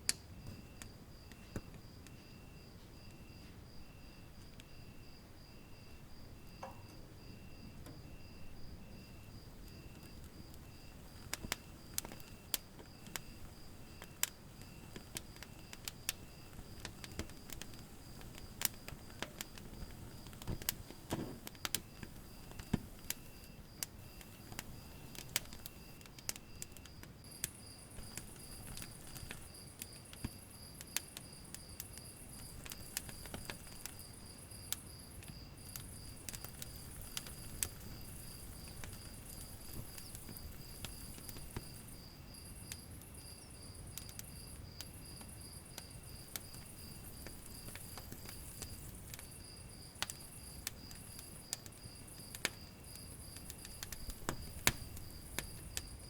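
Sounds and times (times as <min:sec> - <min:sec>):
crickets chirping: 0:00.0 - 0:56.0
wood fire crackling: 0:00.0 - 0:56.0
shrill insect trill: 0:00.4 - 0:20.8, 0:21.6 - 0:56.0.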